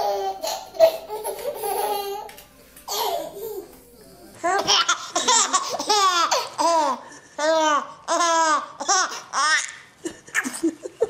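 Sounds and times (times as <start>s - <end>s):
baby laughing: 0.0s - 3.8s, 4.5s - 11.0s.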